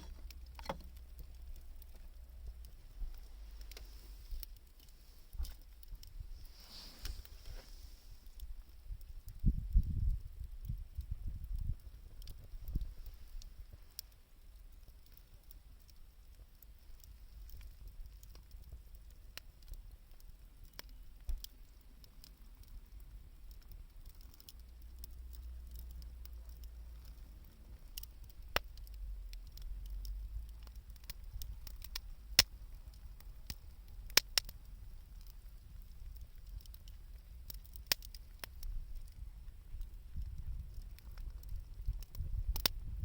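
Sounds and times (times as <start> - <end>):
bonfire crackling and popping: 0.0 - 43.0
low rumble of fire: 0.0 - 43.0.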